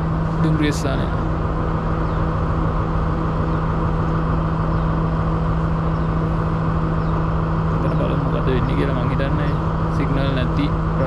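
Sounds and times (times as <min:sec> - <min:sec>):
diesel train engine humming: 0:00.0 - 0:11.0.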